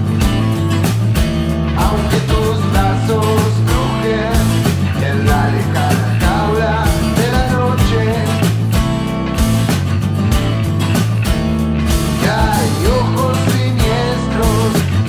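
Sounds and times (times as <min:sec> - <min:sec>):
acoustic guitar: 0:00.0 - 0:15.0
bass guitar: 0:00.0 - 0:15.0
steady drum beat: 0:00.0 - 0:15.0.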